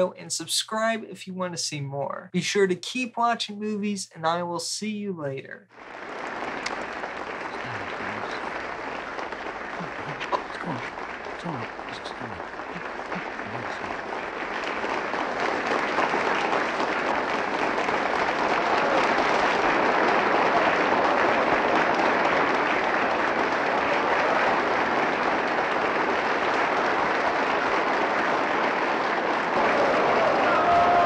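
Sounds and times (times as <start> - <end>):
audience applauding: 5.7 - 31.0.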